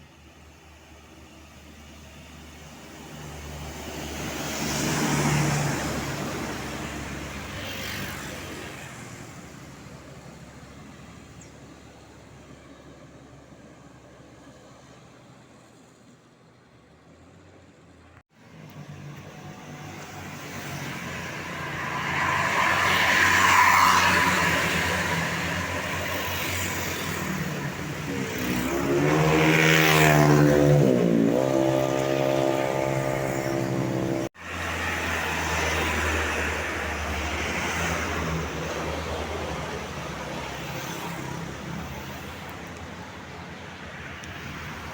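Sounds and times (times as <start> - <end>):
bus engine and road noise: 0.0 - 44.9.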